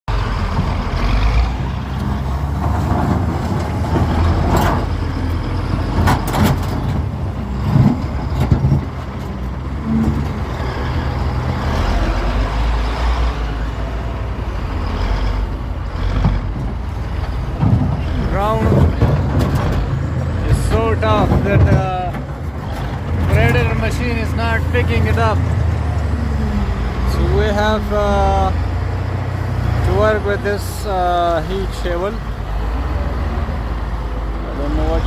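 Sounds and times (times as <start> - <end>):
bulldozer diesel engine running: 0.1 - 35.0.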